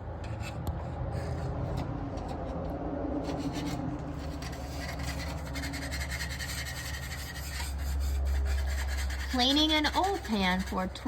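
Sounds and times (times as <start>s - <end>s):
scrubbing an oil pan: 0.3s - 11.0s.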